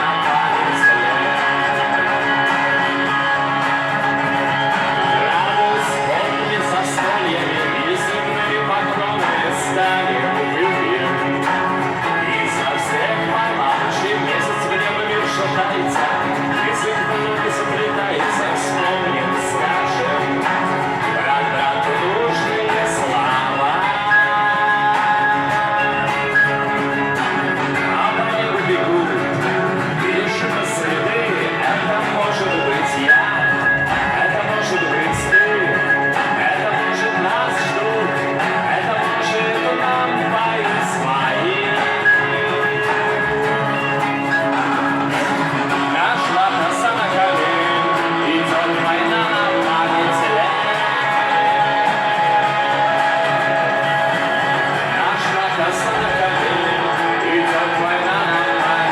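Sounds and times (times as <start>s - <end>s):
guitar-led rock instrumental: 0.0s - 58.9s.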